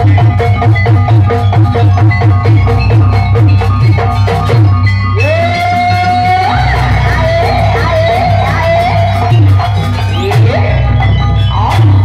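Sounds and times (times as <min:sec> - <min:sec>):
drums: 0:00.0 - 0:12.0
gamelan music: 0:00.0 - 0:12.0
mallet-struck metallophones: 0:00.0 - 0:12.0.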